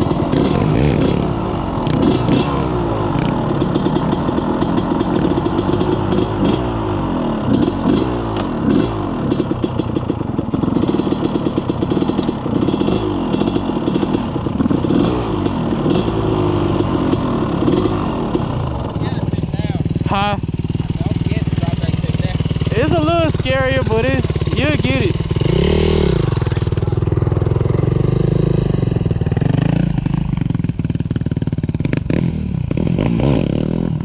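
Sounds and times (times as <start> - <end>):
quad engine revving: 0.0 - 34.0.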